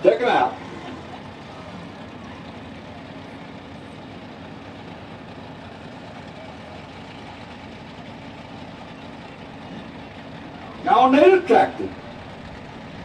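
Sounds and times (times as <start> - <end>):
truck engine running at low revs: 0.0 - 13.0.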